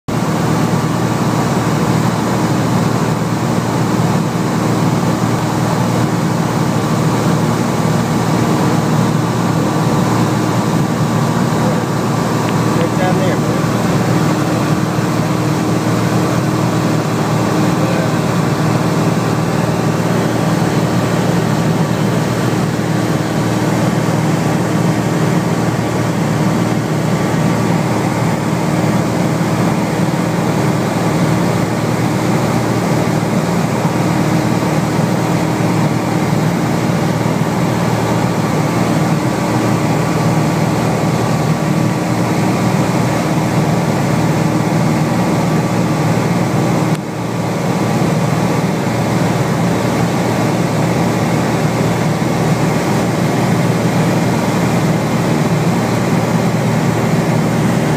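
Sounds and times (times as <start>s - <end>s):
plane engine and propeller droning: 0.1s - 57.9s.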